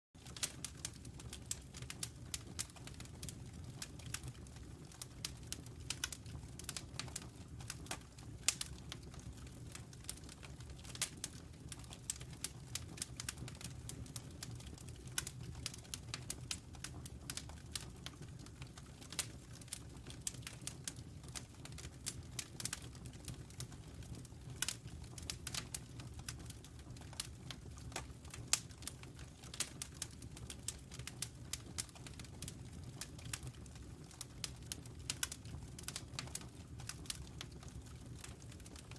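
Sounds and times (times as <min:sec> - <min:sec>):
low rumble of flames: 0:00.2 - 0:38.9.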